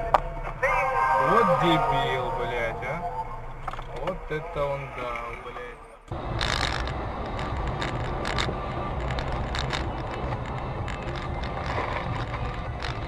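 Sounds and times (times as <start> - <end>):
road and engine noise: 0.0 - 13.0.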